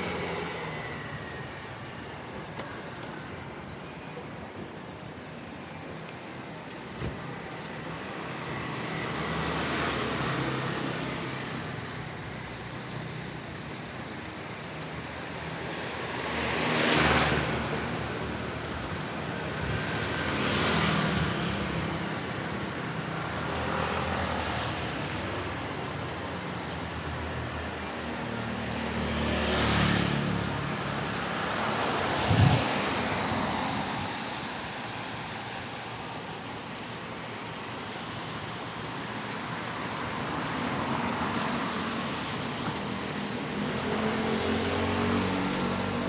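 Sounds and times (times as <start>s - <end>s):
low hum of engines: 0.0s - 46.0s.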